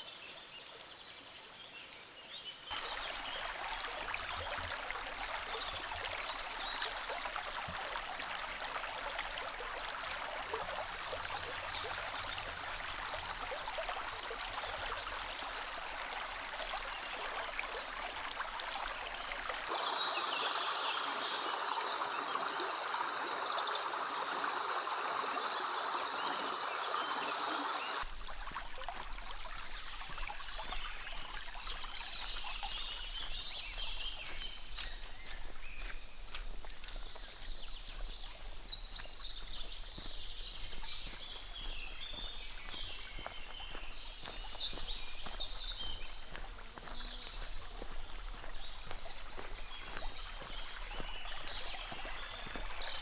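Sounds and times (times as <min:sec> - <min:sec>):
brook rushing and gurgling: 0:02.7 - 0:53.0.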